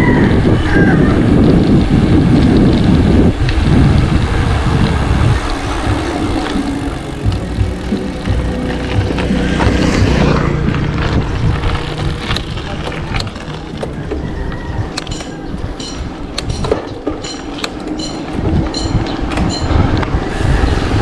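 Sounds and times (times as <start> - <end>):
bicycle tyre and road noise: 0.0 - 21.0
wind buffeting microphone: 0.0 - 21.0
bicycle clicks: 0.8 - 21.0.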